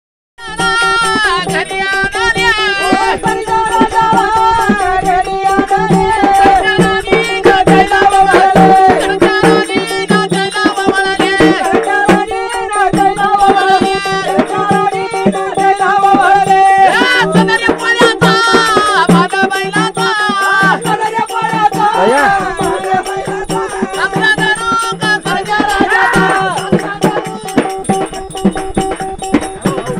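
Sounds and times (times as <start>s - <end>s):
man singing: 0.4s - 28.4s, 29.0s - 29.9s
hand drum beat: 0.4s - 29.9s
jingling rattles: 0.6s - 29.9s.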